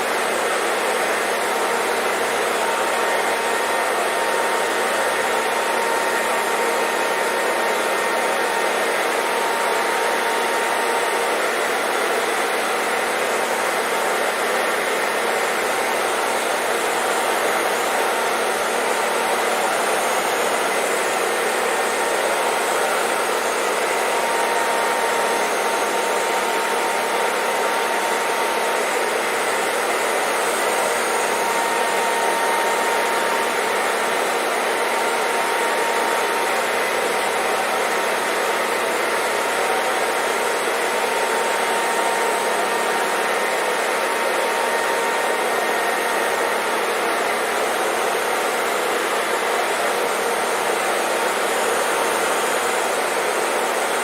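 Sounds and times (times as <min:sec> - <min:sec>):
hair dryer blowing: 0:00.0 - 0:54.0.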